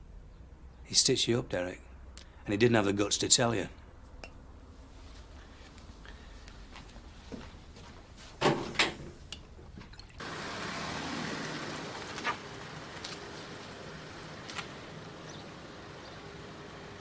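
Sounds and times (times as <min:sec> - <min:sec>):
distant traffic hum: 0:00.0 - 0:17.0.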